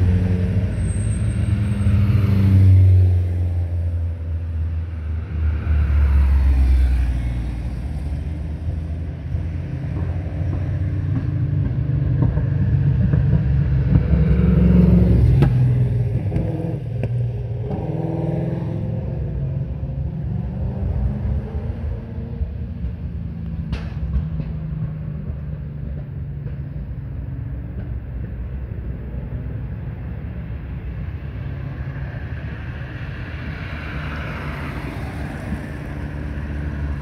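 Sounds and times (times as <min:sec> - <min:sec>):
cars driving past: 0:00.0 - 0:37.0.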